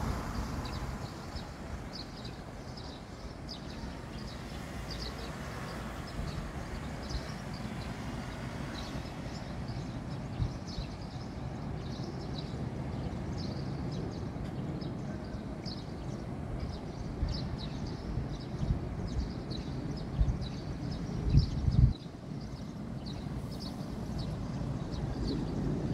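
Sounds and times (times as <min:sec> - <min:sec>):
steady low urban rumble: 0:00.0 - 0:25.9
small birds chirping: 0:00.1 - 0:25.9.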